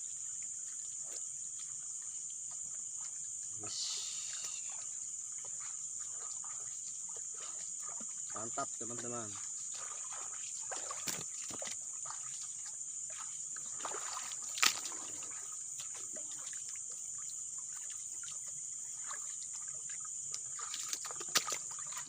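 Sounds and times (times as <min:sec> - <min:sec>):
night insects chorus: 0:00.0 - 0:22.0
water trickling and splashing: 0:00.0 - 0:22.0.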